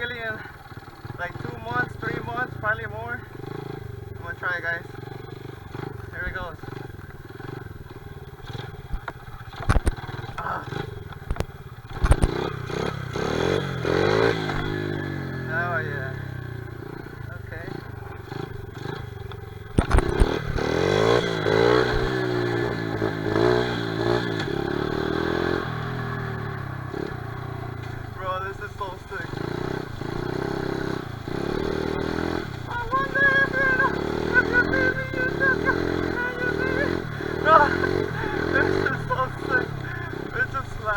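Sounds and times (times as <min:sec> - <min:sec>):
pit bike engine running: 0:00.0 - 0:40.9.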